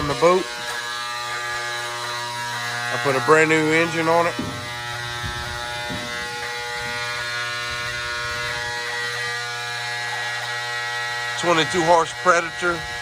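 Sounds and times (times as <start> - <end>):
small gasoline engine droning: 0.0 - 13.0.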